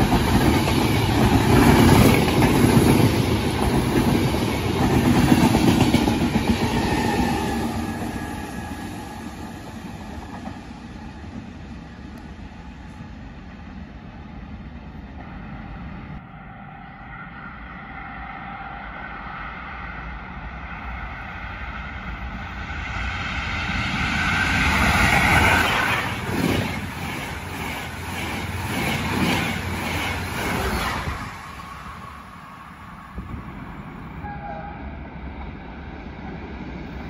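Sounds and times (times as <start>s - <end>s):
train passing rail and wind noise: 0.0s - 37.0s.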